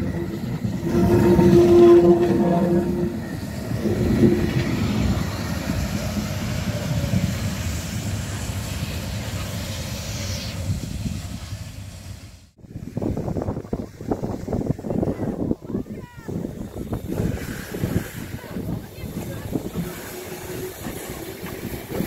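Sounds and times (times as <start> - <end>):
steam train rumbling: 0.0 - 22.0.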